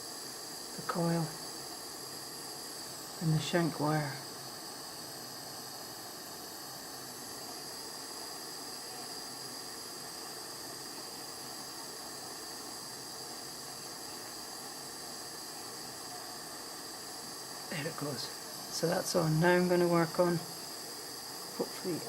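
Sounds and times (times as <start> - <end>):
soldering torch flame hissing: 0.0 - 22.0.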